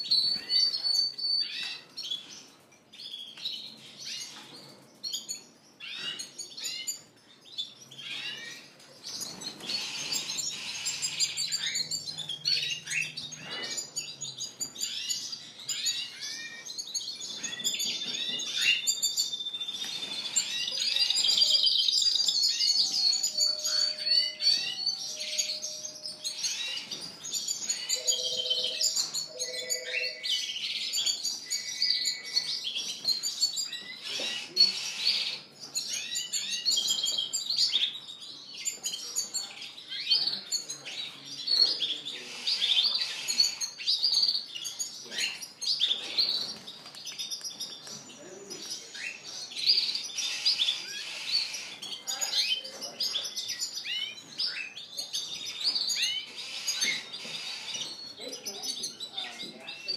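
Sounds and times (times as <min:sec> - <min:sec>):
canaries singing: 0:00.0 - 0:59.9.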